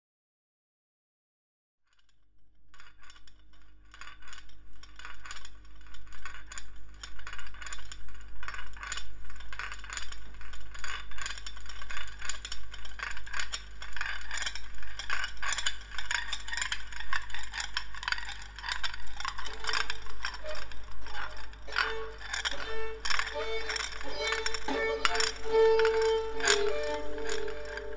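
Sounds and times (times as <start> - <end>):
rattling clicking percussion: 2.8 - 27.9.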